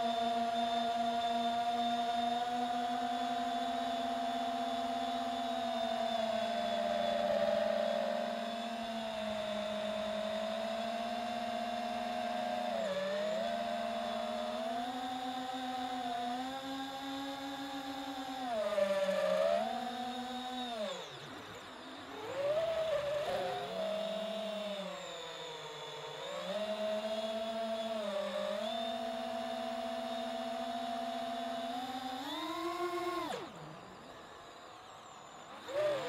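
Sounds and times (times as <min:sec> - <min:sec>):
drone motors whining: 0:00.0 - 0:36.0.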